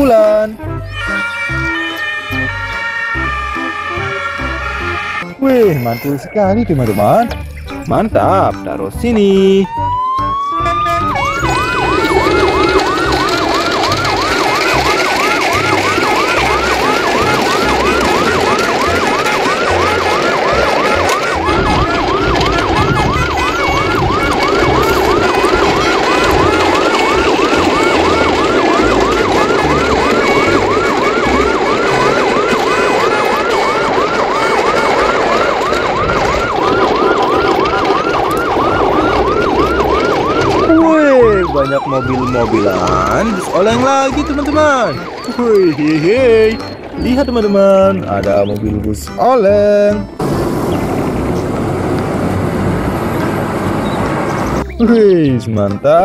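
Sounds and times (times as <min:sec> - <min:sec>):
electronic siren yelping: 0:00.0 - 0:07.2, 0:09.1 - 0:48.4.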